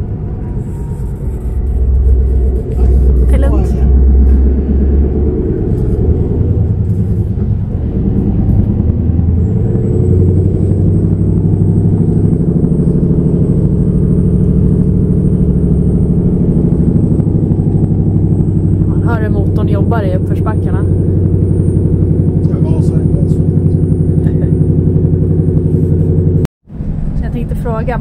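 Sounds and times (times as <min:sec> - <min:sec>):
road noise: 0:00.0 - 0:28.0
truck diesel engine drone: 0:00.0 - 0:28.0.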